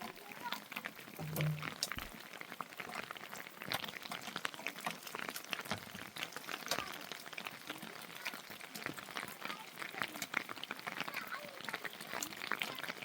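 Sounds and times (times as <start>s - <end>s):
rain pattering and dripping: 0.0s - 13.0s.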